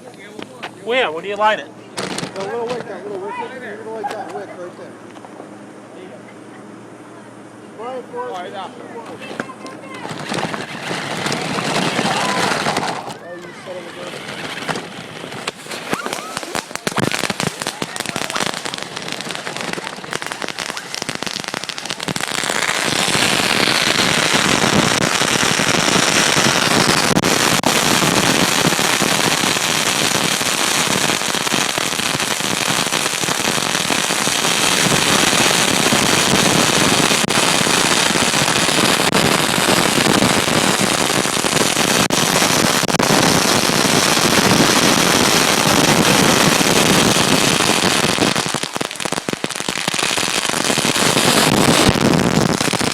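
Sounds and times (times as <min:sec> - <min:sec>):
firework crackling: 0:00.0 - 0:04.3, 0:09.1 - 0:52.9.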